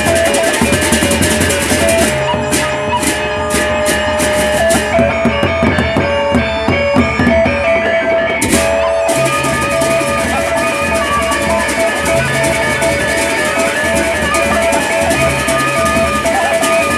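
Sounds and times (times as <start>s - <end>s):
barrel drums beaten with sticks: 0.0s - 16.9s
gongs: 0.0s - 16.9s
held pitched notes: 0.0s - 16.9s.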